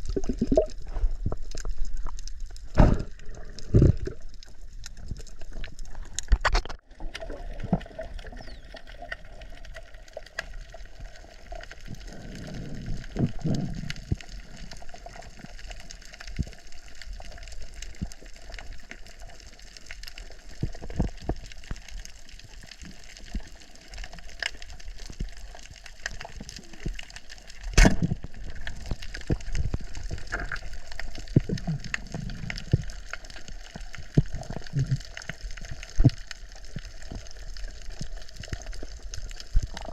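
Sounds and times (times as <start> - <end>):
water gurgling underwater: 0.0 - 39.9.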